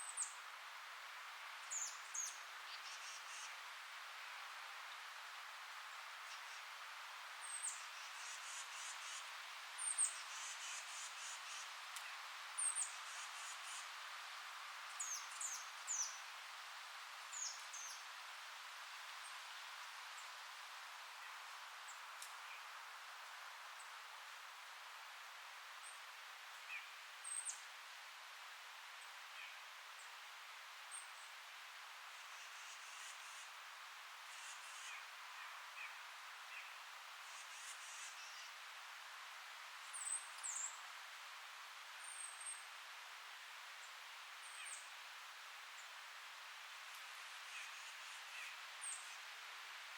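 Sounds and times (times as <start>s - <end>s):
wind rustling leaves: 0.0s - 49.9s.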